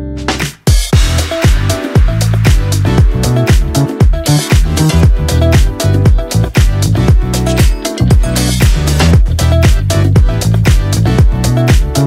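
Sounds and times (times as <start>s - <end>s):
music with kick-drum beat: 0.2s - 12.0s.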